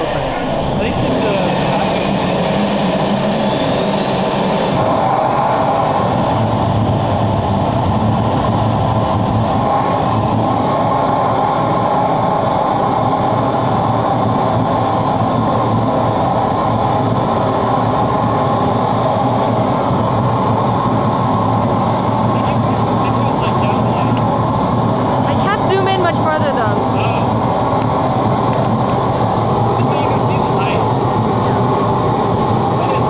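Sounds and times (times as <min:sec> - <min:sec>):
turbojet engine roaring: 0:00.0 - 0:33.0.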